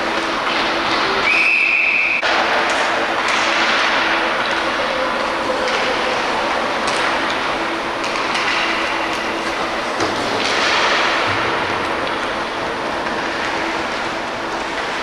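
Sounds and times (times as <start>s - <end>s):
hockey sticks clacking: 0.0s - 15.0s
steady low hum: 0.0s - 15.0s.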